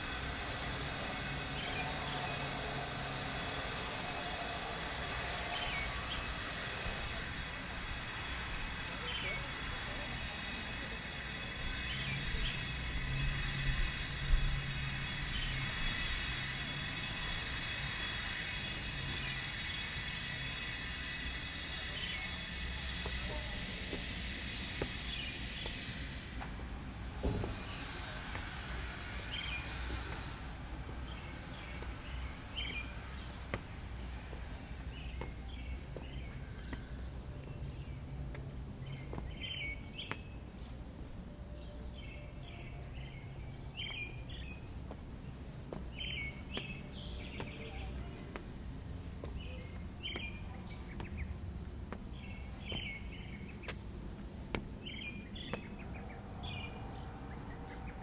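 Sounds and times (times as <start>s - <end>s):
hissing noise: 0.0s - 41.2s, 41.9s - 57.5s
low city rumble: 0.0s - 58.0s.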